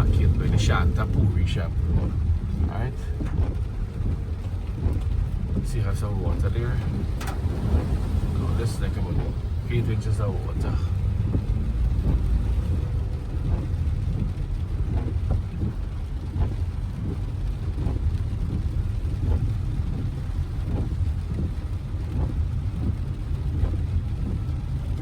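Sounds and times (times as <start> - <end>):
car driving through water: 0.0 - 25.0.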